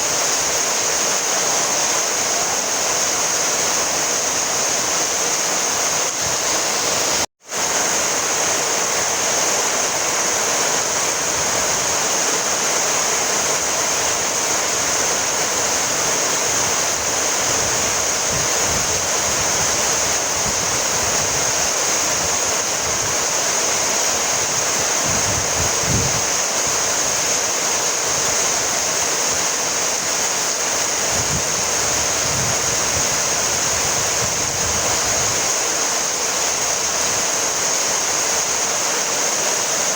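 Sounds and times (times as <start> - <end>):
heavy rainfall hiss: 0.0 - 39.9.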